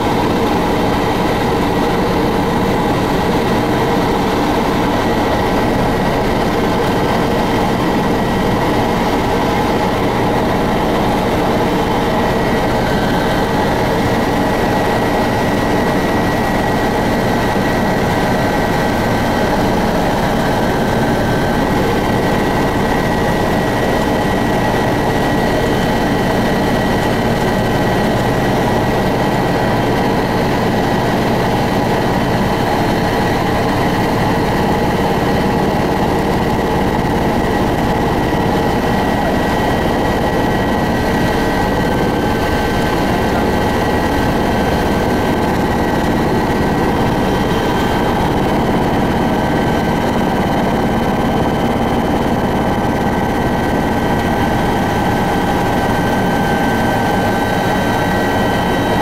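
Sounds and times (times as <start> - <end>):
helicopter engine and rotor drone: 0.0 - 59.0
high steady whine: 0.0 - 59.0.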